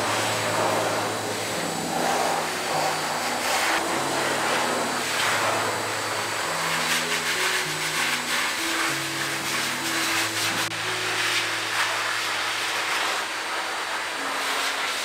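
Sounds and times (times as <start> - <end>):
music of low sustained notes: 0.0 - 14.6
dryer blowing air: 0.0 - 15.0.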